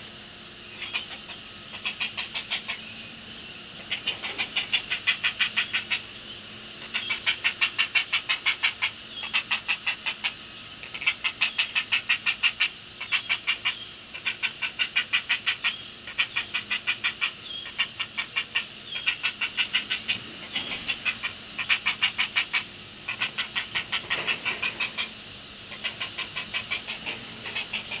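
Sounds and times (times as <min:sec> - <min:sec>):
heron chicks clacking calls: 0:00.8 - 0:02.9, 0:03.8 - 0:06.2, 0:06.8 - 0:28.0.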